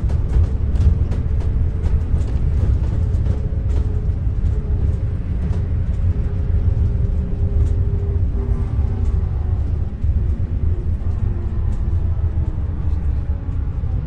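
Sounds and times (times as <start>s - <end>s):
bus engine rumble with whine: 0.0s - 14.0s.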